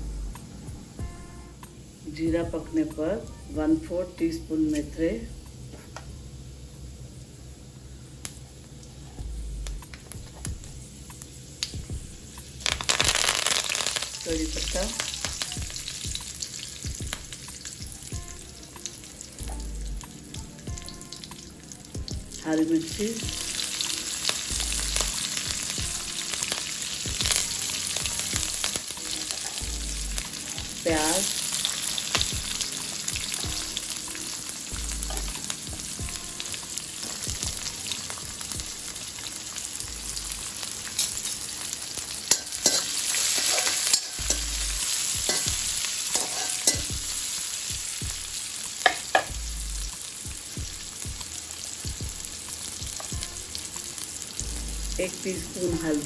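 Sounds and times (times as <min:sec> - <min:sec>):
spices sizzling in hot oil: 0:00.0 - 0:56.0.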